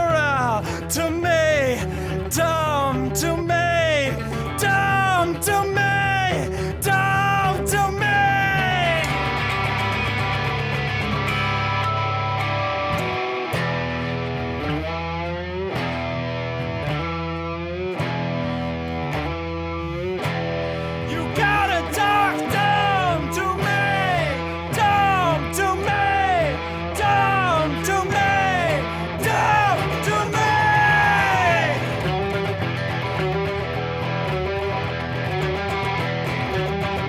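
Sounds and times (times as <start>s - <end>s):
guitar lead with pitch bends: 0.0s - 37.0s.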